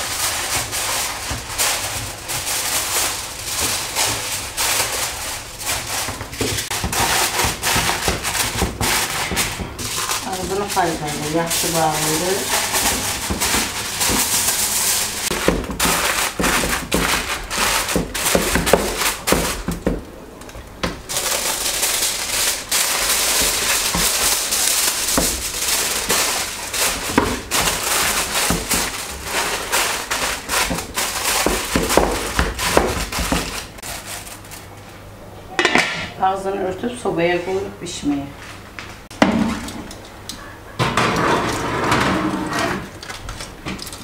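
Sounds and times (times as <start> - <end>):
aluminium foil crinkling: 0.0 - 34.9, 42.8 - 44.0.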